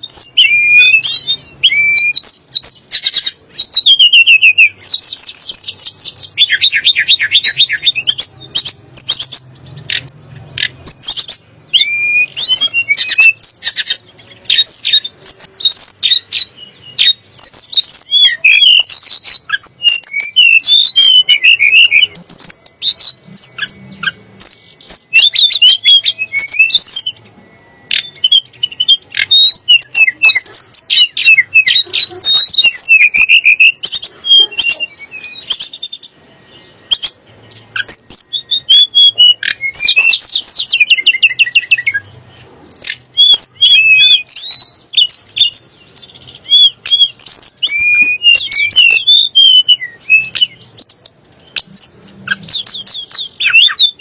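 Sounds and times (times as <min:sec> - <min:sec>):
songbird singing fast song: 0:00.0 - 0:54.0.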